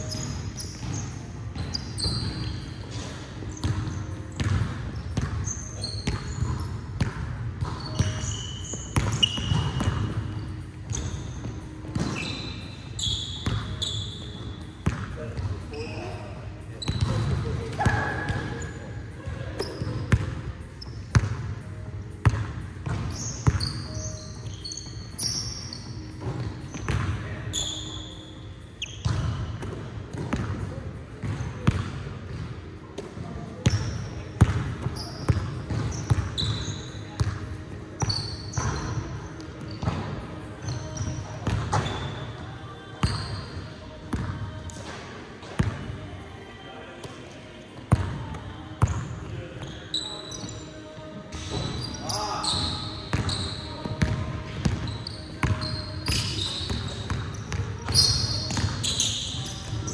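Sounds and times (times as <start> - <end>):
sneaker squeaks: 0.0 - 30.6, 33.5 - 46.0, 47.2 - 59.9.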